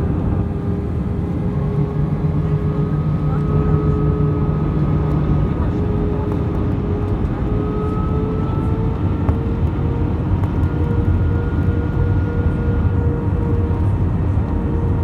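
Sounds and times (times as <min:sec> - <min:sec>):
jet engine hum: 0:00.0 - 0:15.0.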